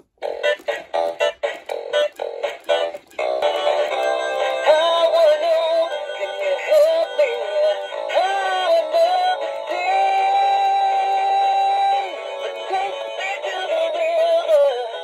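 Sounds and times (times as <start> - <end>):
song through small speaker: 0.0 - 15.0.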